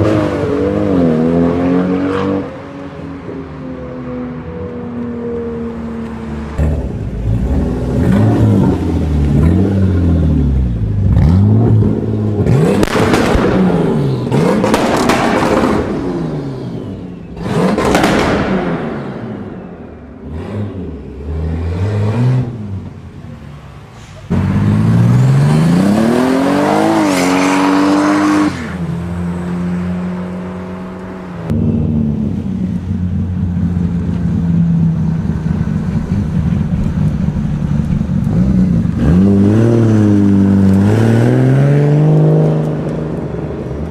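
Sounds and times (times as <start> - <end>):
car engine revving: 5.7 - 23.2, 24.3 - 43.9.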